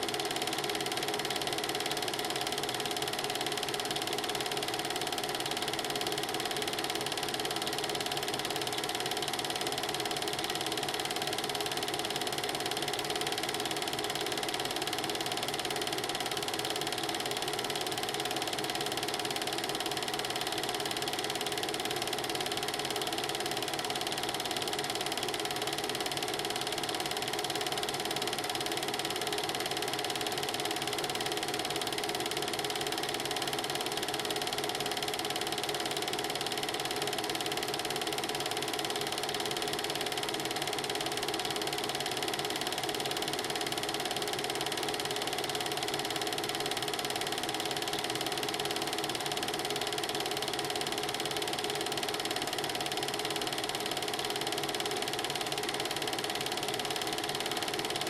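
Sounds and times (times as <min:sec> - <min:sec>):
film projector clatter: 0:00.0 - 0:58.0.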